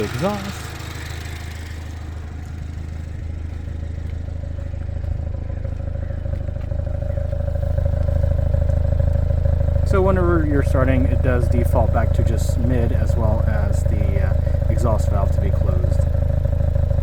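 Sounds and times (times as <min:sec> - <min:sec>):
car exhaust idling drone: 0:00.0 - 0:17.0.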